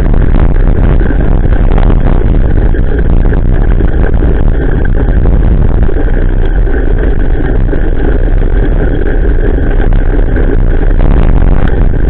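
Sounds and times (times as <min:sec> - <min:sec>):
road vibration rumble: 0:00.0 - 0:12.0
wind buffeting microphone: 0:00.0 - 0:12.0.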